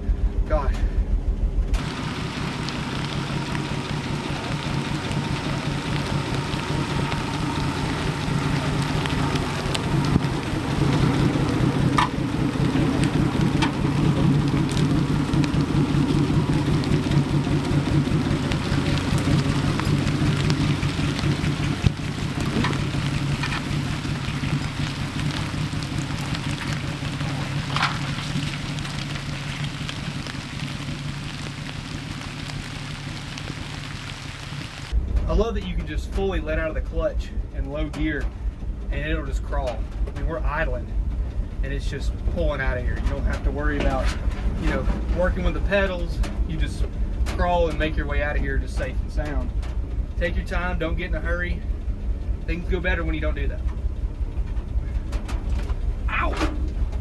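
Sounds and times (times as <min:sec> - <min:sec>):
rain on truck: 0:00.0 - 0:57.0
truck engine idling: 0:00.0 - 0:57.0
truck knocking on rough trail: 0:01.2 - 0:33.8, 0:42.2 - 0:57.0.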